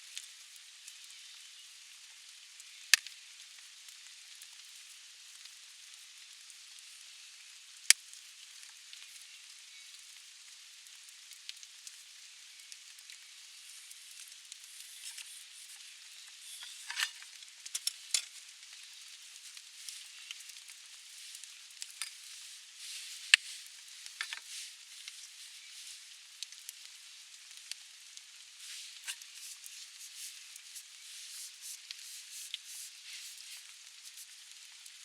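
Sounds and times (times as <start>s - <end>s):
food sizzling in frying: 5.9s - 35.0s.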